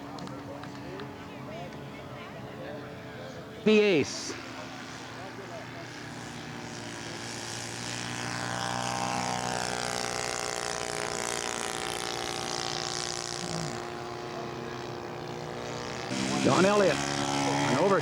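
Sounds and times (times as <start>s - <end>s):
model airplane propeller engine: 0.0s - 18.0s.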